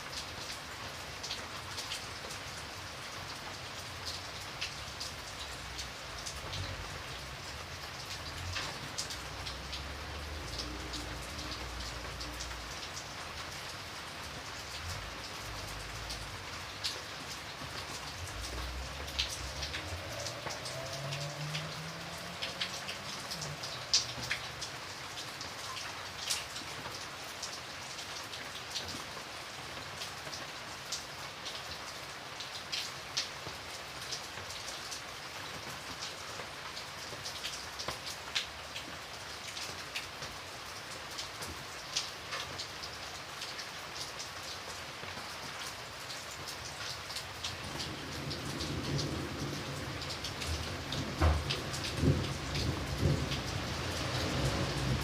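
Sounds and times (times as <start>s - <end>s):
rain falling: 0.0s - 55.0s
raindrops ticking on a surface: 0.0s - 55.0s.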